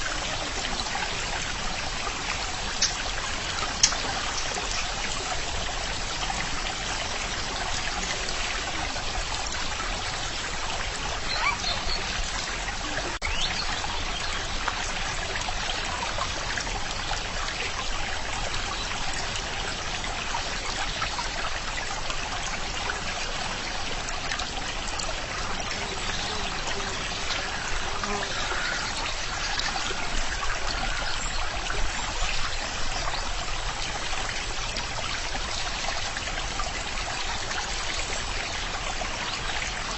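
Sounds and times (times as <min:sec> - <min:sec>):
stream water flowing over stones: 0:00.0 - 0:39.9.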